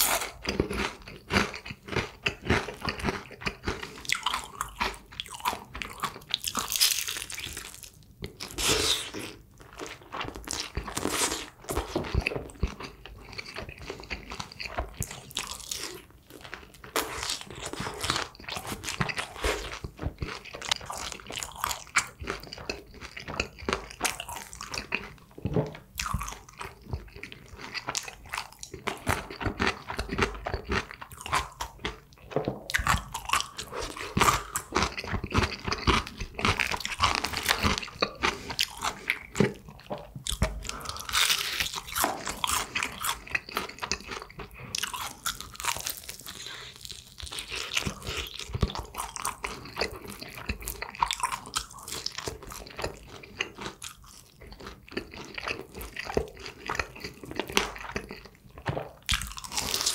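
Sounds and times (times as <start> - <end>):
crunching fried chicken: 0.0 - 59.9.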